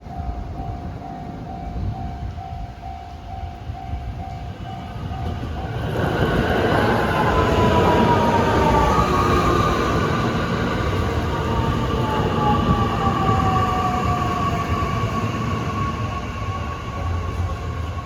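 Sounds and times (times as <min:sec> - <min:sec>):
electric train passing with whine: 0:00.0 - 0:18.0.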